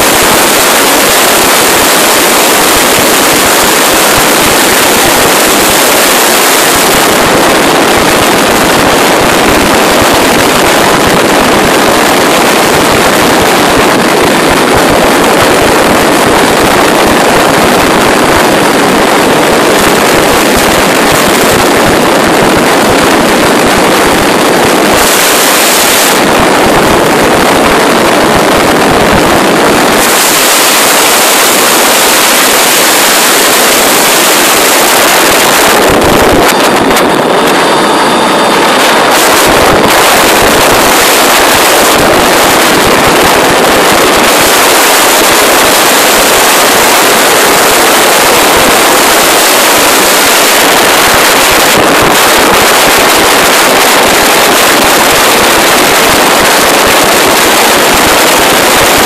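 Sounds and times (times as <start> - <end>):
helicopter turbine and rotor: 0.0 - 59.0
wind rushing over microphone: 0.0 - 59.0.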